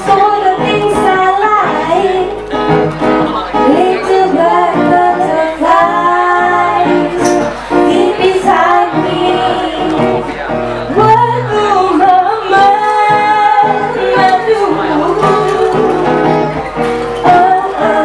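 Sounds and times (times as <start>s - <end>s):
two women singing: 0.0s - 2.7s, 3.6s - 10.3s, 10.9s - 18.0s
musical accompaniment: 0.0s - 18.0s.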